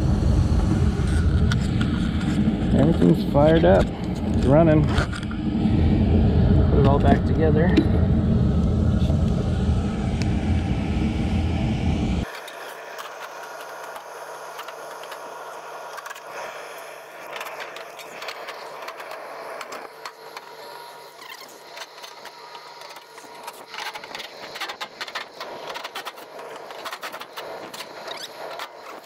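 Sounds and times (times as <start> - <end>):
furnace unit humming: 0.0 - 29.0.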